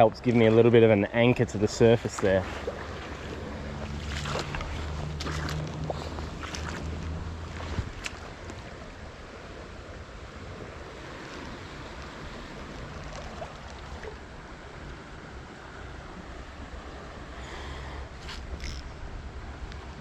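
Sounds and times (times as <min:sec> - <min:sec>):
stream water rushing: 0:00.0 - 0:20.0
wind rumbling on microphone: 0:00.0 - 0:20.0.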